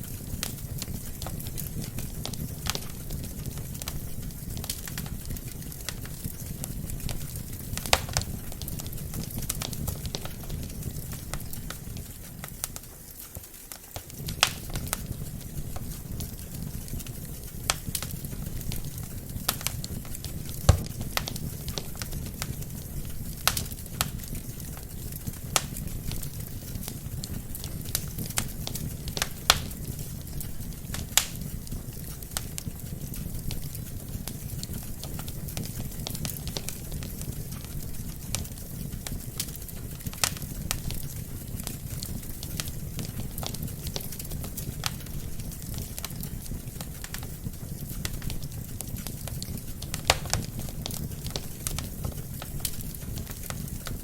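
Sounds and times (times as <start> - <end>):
logs crackling and popping: 0.0 - 54.0
rush of flames: 0.0 - 54.0.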